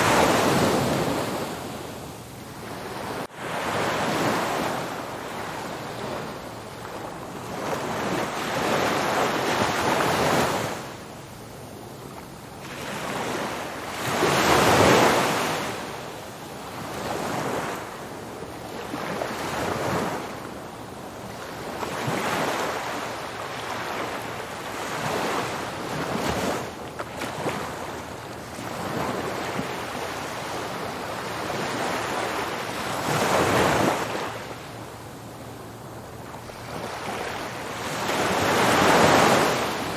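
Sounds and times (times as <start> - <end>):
ocean waves breaking on beach: 0.0 - 11.1, 11.8 - 39.9.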